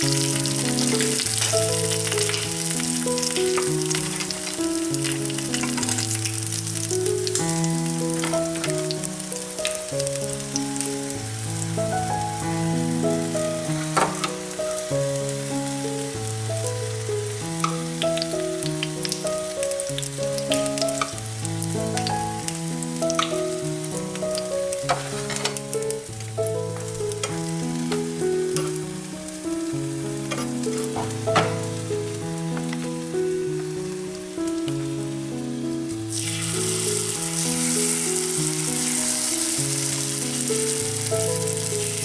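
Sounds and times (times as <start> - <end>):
oil sizzling and crackling in pan: 0.0 - 42.0.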